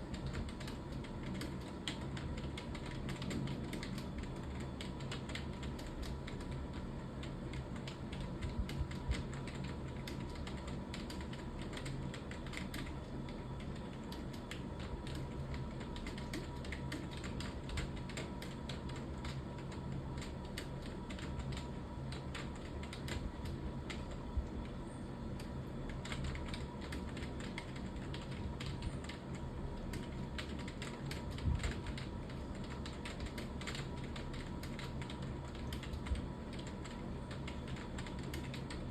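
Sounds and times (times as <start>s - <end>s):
fast typing on keyboard: 0.0s - 24.7s, 25.4s - 38.9s
low steady hum: 0.0s - 38.9s.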